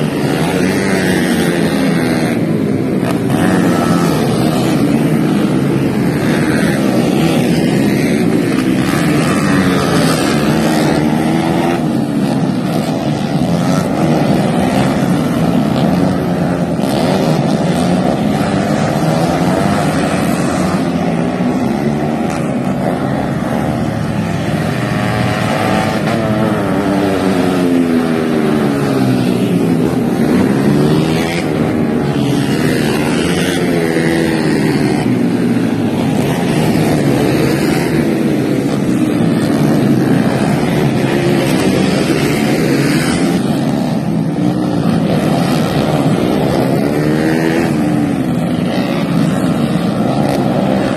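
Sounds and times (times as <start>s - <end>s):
racing motorcycles engines: 0.0s - 50.9s.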